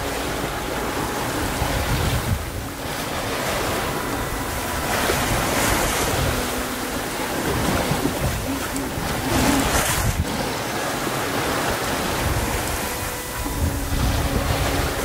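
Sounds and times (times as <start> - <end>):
sea splashing along hull: 0.0 - 15.0
wind buffeting microphone: 0.0 - 15.0.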